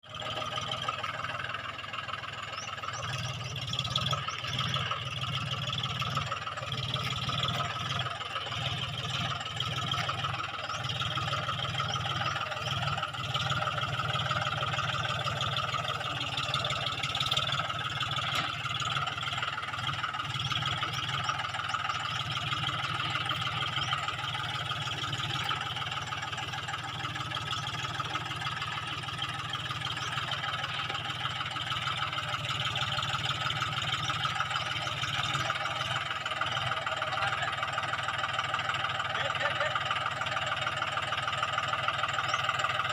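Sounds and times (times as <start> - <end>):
tractor engine chugging: 0.0 - 42.9.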